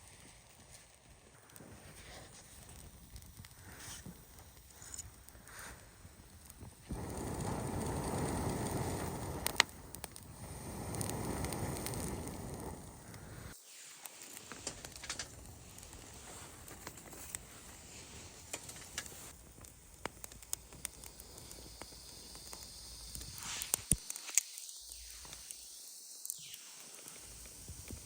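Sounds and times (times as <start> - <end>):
campfire pops and snaps: 0.0 - 25.6
campfire soft hiss: 0.0 - 28.0.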